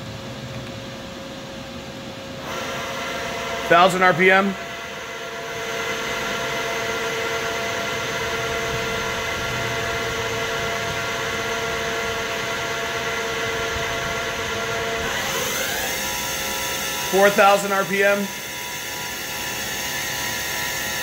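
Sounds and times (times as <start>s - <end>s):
machine spindle humming: 0.0s - 21.0s.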